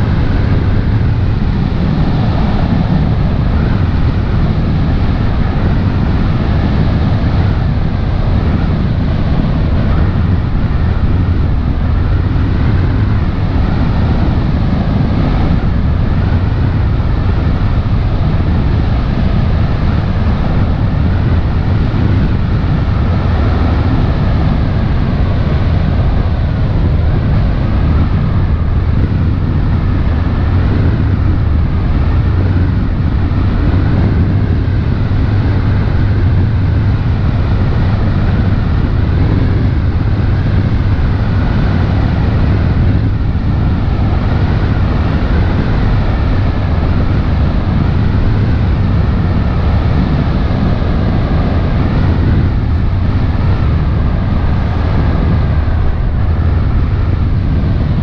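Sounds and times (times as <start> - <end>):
boat engines droning: 0.0 - 58.0
wind blowing on microphone: 0.0 - 58.0.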